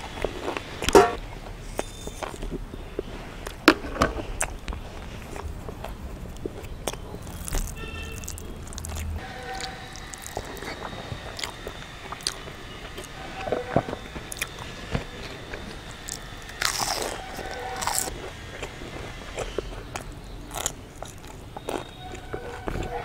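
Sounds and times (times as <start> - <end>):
chewing crunchy food: 0.0 - 23.0.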